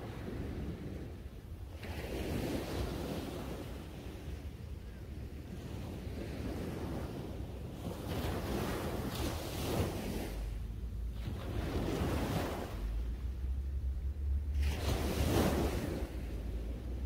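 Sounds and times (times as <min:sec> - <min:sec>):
small waves washing up beach: 0:00.0 - 0:17.0
wind rumble on microphone: 0:00.0 - 0:17.0.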